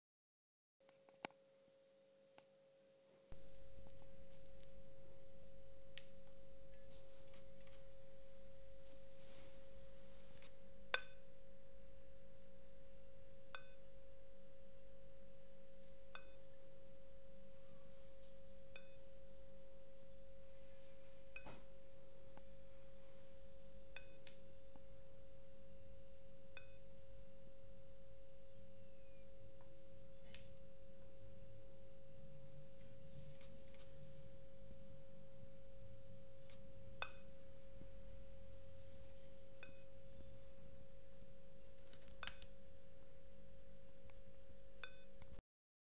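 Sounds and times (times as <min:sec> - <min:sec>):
low hum: 0:03.3 - 0:45.4
laptop steady beep tone: 0:03.4 - 0:21.7, 0:22.6 - 0:24.3, 0:25.0 - 0:42.5, 0:44.8 - 0:45.2.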